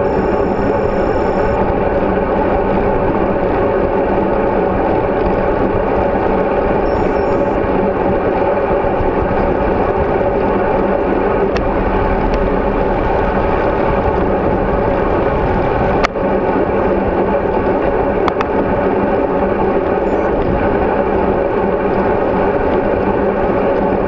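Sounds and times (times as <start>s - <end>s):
wind and road rumble: 0.0s - 24.0s.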